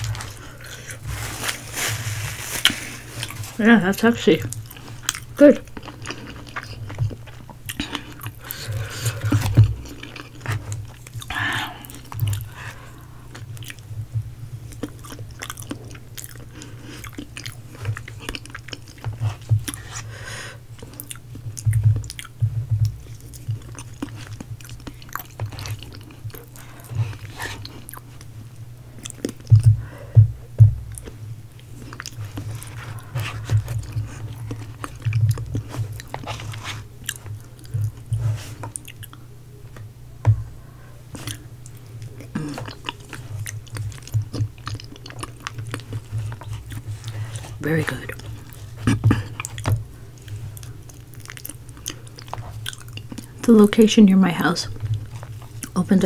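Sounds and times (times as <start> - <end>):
chewing and biting crunches: 0.0 - 14.0, 14.6 - 29.8, 30.9 - 39.3, 41.1 - 53.5, 54.7 - 55.8.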